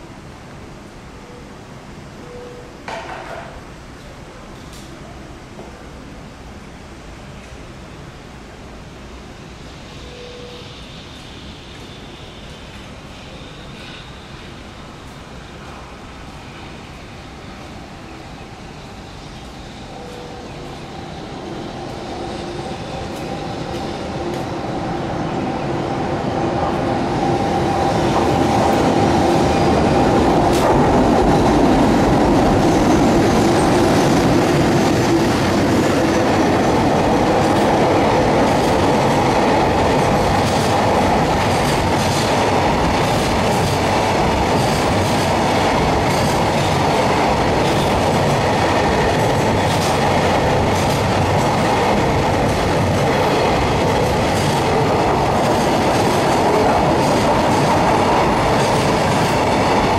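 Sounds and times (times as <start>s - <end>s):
freight train rushing past: 8.0s - 59.9s.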